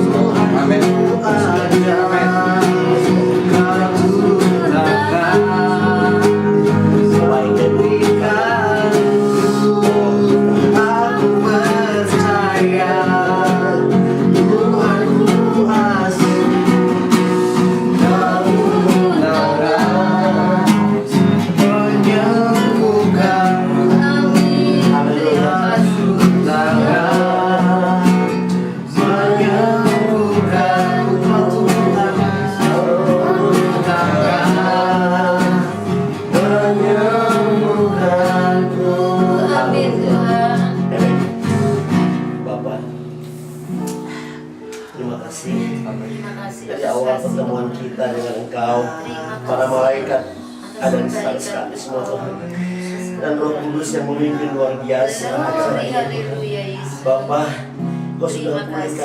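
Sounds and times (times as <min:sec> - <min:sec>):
person singing: 0:00.0 - 0:42.1, 0:43.4 - 0:57.9
guitar accompaniment: 0:00.0 - 0:59.0.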